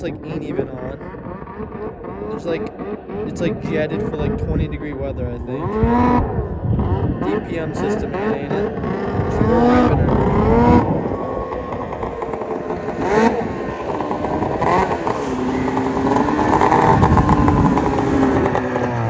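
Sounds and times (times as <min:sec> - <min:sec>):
snowmobile engine revving hard: 0:00.0 - 0:19.0.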